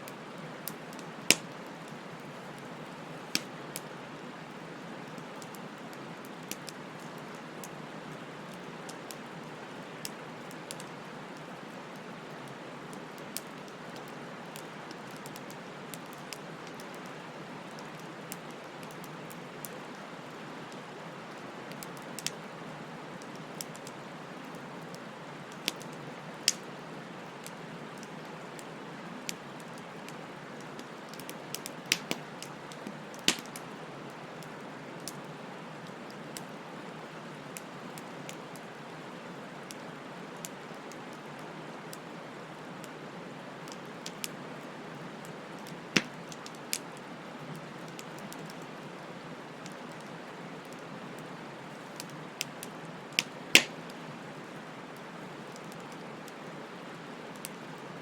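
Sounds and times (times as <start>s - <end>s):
flames hissing and rustling: 0.1s - 20.9s, 21.6s - 38.8s, 43.6s - 58.0s
burning wood crackling and popping: 0.1s - 39.0s, 43.6s - 56.5s.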